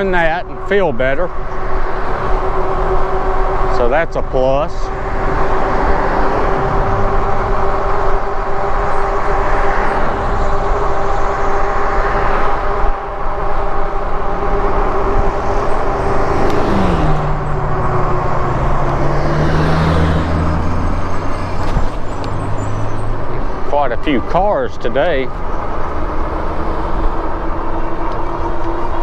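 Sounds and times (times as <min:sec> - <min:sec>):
continuous whine: 0:00.0 - 0:29.0
road traffic rush: 0:00.0 - 0:29.0
vehicle engine low note: 0:00.0 - 0:29.0.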